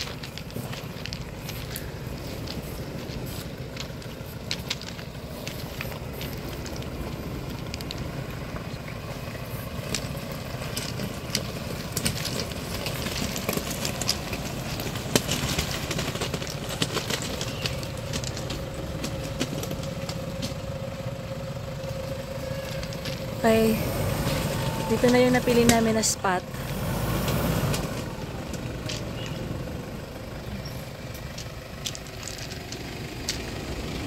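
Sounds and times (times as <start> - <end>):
car engine running low: 0.0 - 34.0
tyres crackling on rough surface: 0.0 - 34.0.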